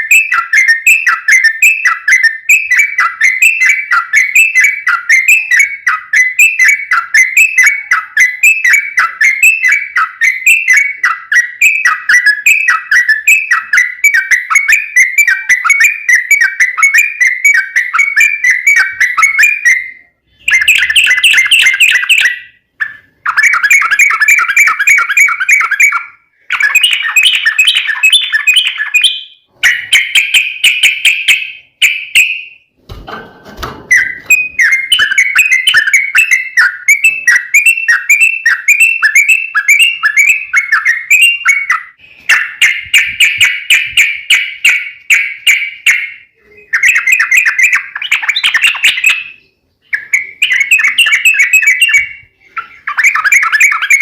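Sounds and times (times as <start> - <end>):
bird chattering notes: 0.0 - 32.4, 33.9 - 54.0
bird whistled song: 0.0 - 32.7, 33.8 - 54.0.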